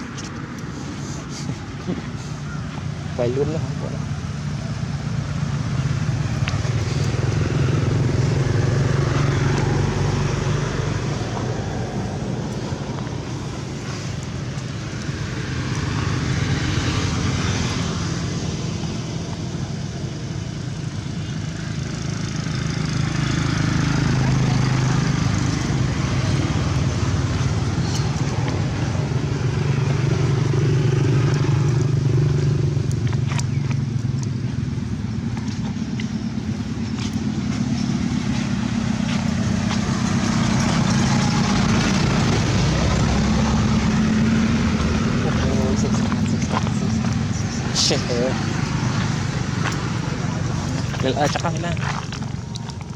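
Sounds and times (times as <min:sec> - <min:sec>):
vehicle engines on a road: 0:00.0 - 0:52.9.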